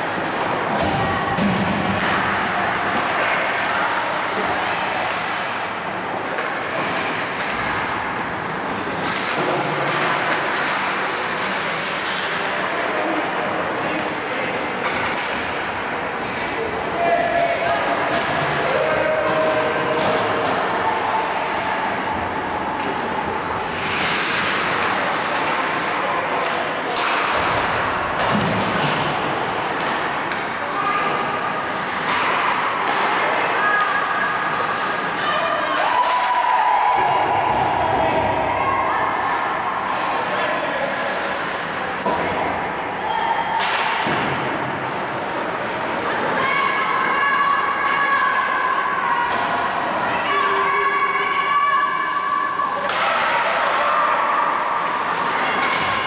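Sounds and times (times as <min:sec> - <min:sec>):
clacks of sticks and puck: 0:00.0 - 0:36.6, 0:39.9 - 0:42.8, 0:43.4 - 0:51.4, 0:52.0 - 0:56.0
skates scraping ice: 0:00.0 - 0:37.2, 0:38.1 - 0:56.0
arena noise: 0:00.0 - 0:56.0.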